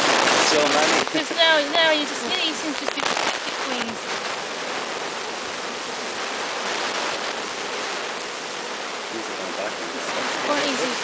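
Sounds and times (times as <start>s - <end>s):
honeybee swarm buzzing: 0.0s - 11.0s.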